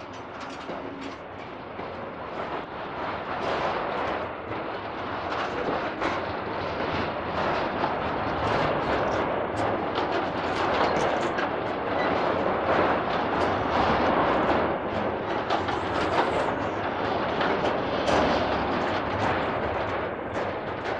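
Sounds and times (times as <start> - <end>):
locomotive engine and wheels rumbling: 0.0 - 20.9
wheels clicking over track: 0.0 - 20.9.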